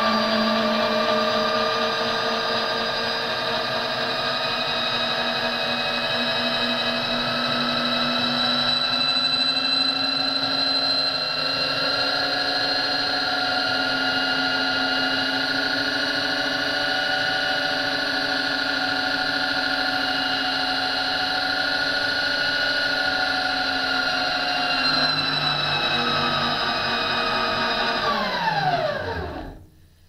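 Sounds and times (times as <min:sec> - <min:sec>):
electric motor whining: 0:00.0 - 0:29.7.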